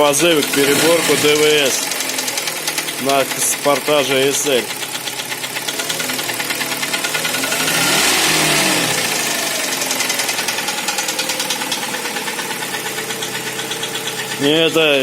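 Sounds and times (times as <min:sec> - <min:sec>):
car engine knocking: 0:00.0 - 0:15.0.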